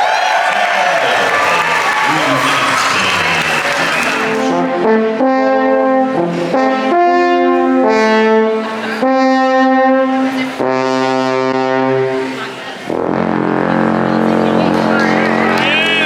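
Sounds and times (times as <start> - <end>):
brass chords: 0.6 - 16.0.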